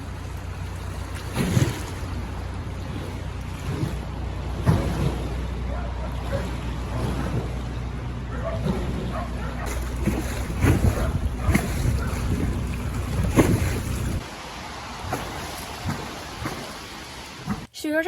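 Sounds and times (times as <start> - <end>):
diesel engine humming: 0.0 - 15.0
water noise: 0.0 - 18.0
wind: 0.0 - 18.0.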